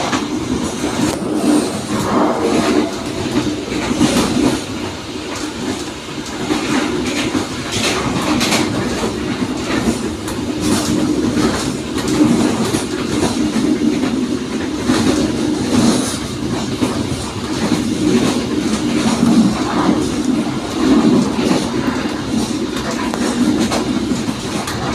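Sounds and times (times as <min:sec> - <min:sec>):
train rumbling on track: 0:00.0 - 0:24.9
wheels clacking over rail joints: 0:00.0 - 0:24.9.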